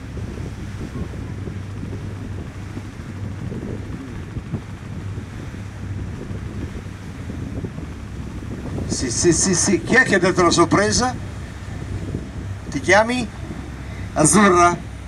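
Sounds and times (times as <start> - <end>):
boat engine drone: 0.0 - 15.0
wind buffeting microphone: 0.0 - 15.0.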